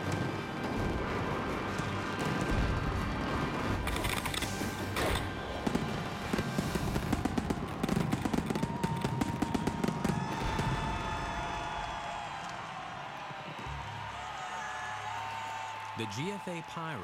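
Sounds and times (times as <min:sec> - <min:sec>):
fireworks bursting with bangs and crackles: 0:00.0 - 0:14.0
music: 0:00.0 - 0:17.0.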